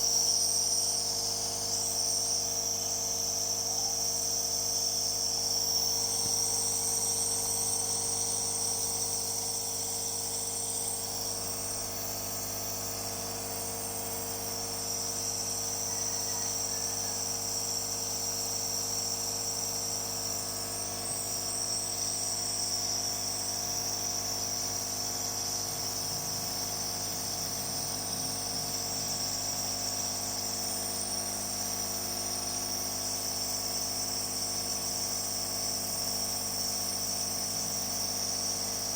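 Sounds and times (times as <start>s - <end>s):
nebulizer motor hum with whine: 0.0s - 38.9s.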